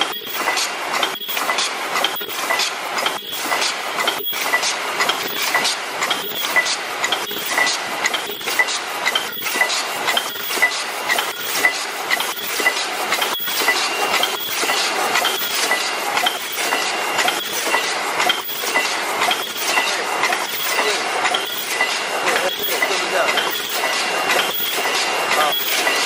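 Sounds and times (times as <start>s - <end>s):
machine mechanical clatter: 0.0s - 26.0s.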